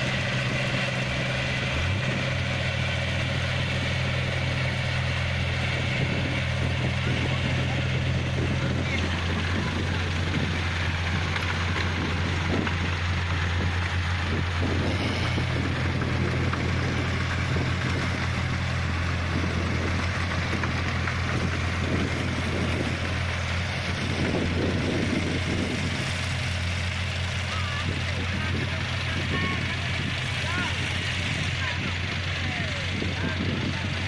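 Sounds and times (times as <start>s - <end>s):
diesel engine humming: 0.0s - 34.0s.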